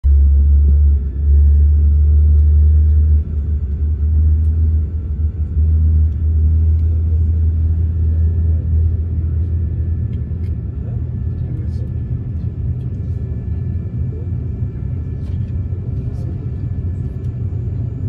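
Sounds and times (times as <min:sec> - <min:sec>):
airliner cabin rumble: 0:00.0 - 0:18.0
faint steady whine: 0:00.0 - 0:18.0.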